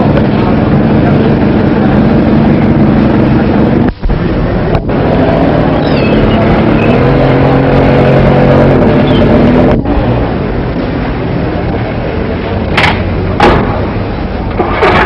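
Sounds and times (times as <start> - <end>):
sports car engine running: 0.0 - 14.7.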